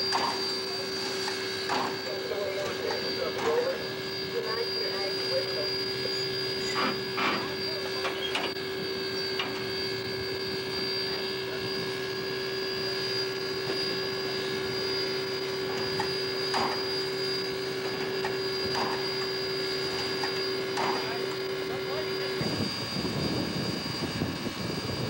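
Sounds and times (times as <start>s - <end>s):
steady hum: 0.0s - 24.6s
constant high whine: 0.0s - 25.0s.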